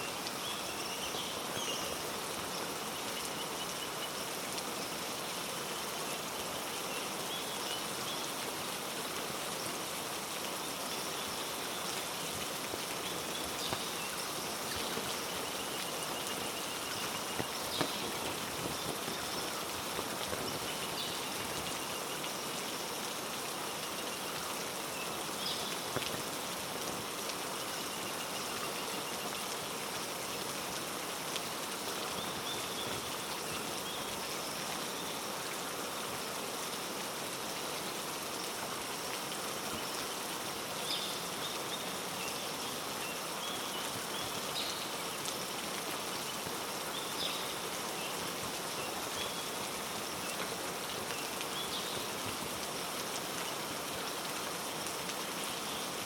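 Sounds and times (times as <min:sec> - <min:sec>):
heavy rain on foliage: 0:00.0 - 0:56.0
water drips: 0:00.1 - 0:56.0.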